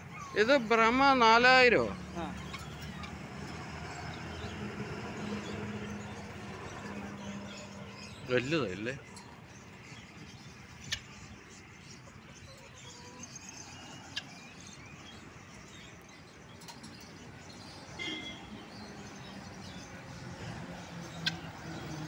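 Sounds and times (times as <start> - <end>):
birds chirping: 0.0 - 22.0
outdoor background noise: 0.0 - 22.0.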